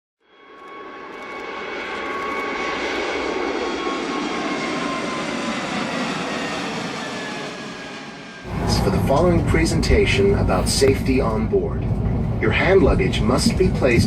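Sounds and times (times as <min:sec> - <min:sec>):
jet engines whining in cabin: 0:00.2 - 0:14.0.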